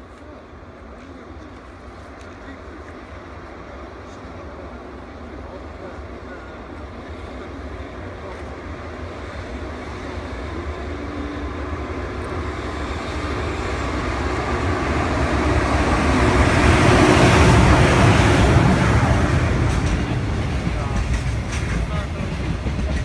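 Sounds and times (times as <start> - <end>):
electric locomotive rumble: 0.0 - 23.0.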